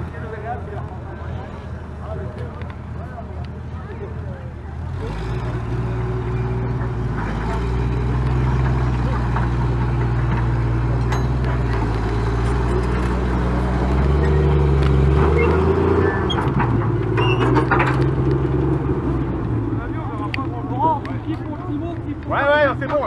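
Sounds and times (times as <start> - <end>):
engine pulling hard under load: 4.4 - 23.0.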